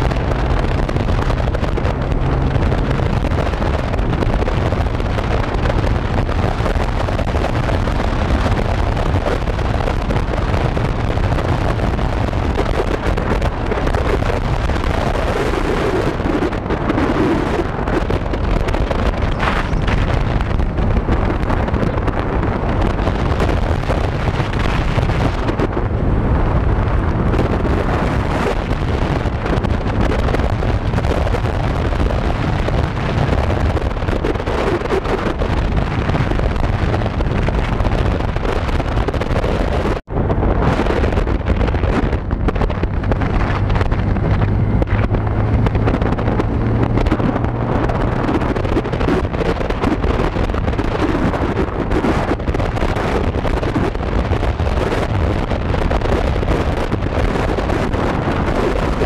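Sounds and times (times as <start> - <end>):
motorcycle engine drone: 0.0 - 59.0
wind buffeting microphone: 0.0 - 59.0.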